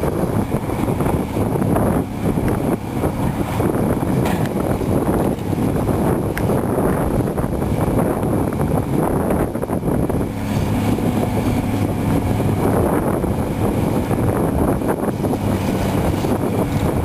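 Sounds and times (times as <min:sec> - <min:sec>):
excavator diesel engine running: 0:00.0 - 0:17.0
wind buffeting microphone: 0:00.0 - 0:17.0.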